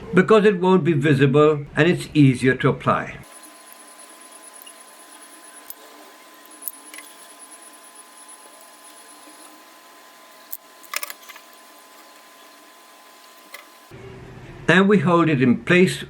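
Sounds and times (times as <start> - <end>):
faint electrical hum: 0.0 - 14.7.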